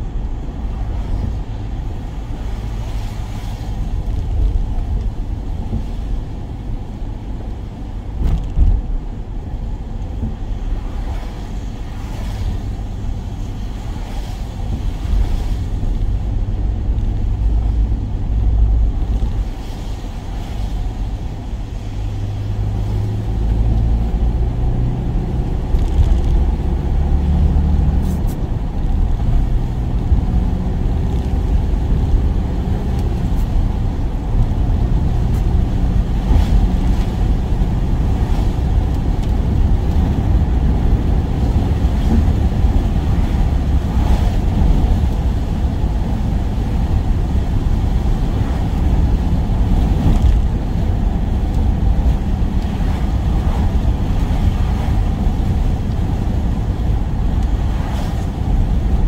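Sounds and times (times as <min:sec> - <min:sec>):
van engine and road noise: 0:00.0 - 0:59.0.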